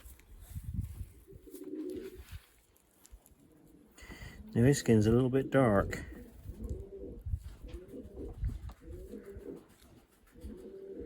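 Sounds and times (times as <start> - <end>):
pigeons cooing: 1.1 - 2.4, 3.4 - 11.0.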